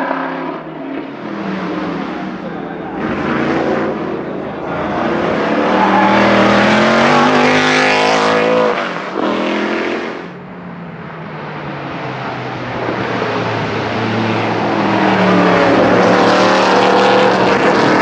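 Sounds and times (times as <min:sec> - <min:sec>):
race car engine accelerating: 0:00.0 - 0:10.4, 0:11.2 - 0:18.0.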